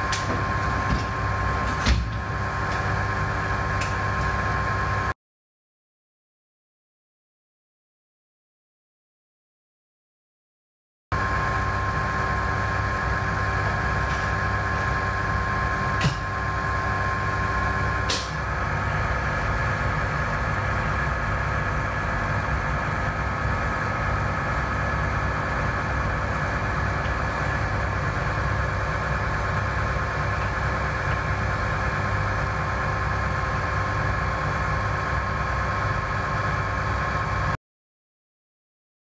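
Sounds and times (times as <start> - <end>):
machine hum: 0.0 - 5.2, 11.1 - 37.6.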